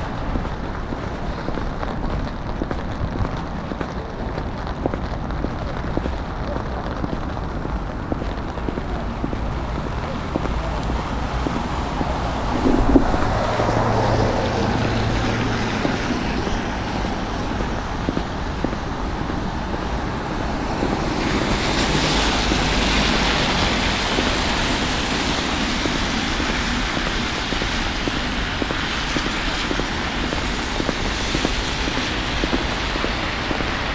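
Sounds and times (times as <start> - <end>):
traffic on wet road: 0.0 - 33.9
wind buffeting microphone: 0.0 - 33.9.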